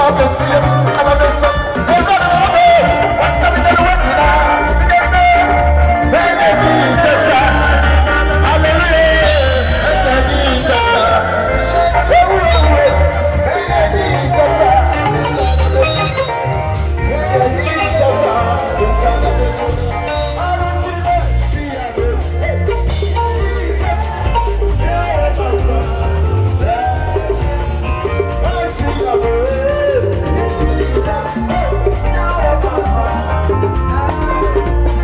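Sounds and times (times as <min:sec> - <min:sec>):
gospel band playing: 0:00.0 - 0:35.0
heavy bass line: 0:00.0 - 0:35.0
person singing: 0:00.0 - 0:35.0.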